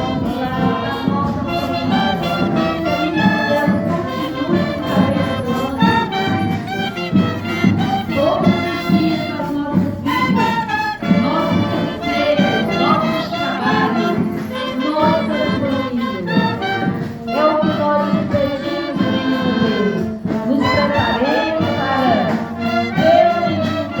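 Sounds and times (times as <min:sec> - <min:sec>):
brass band playing: 0:00.0 - 0:24.0.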